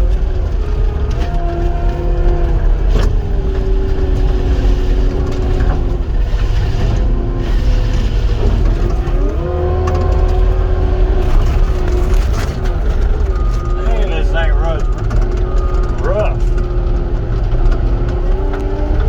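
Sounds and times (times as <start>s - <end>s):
skid steer engine and hydraulics: 0.0s - 19.0s.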